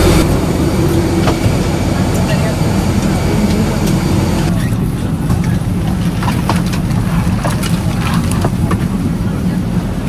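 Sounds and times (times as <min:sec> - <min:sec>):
cabin air conditioning rumble: 0:00.0 - 0:10.0.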